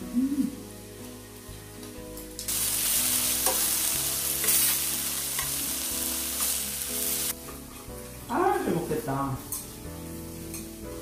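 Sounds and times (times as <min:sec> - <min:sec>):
vegetables sizzling on a griddle: 0:00.1 - 0:11.0.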